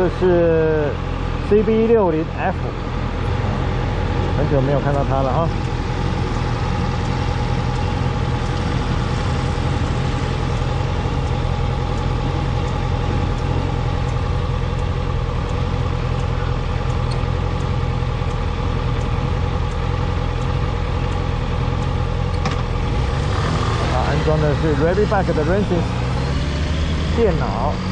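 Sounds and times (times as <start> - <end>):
motorcycle engine idling: 0.0 - 22.9, 23.7 - 27.9.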